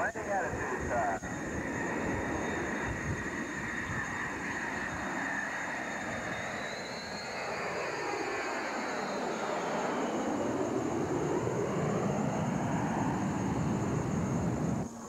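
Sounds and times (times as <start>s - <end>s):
aircraft engine with high whine: 0.0s - 15.0s.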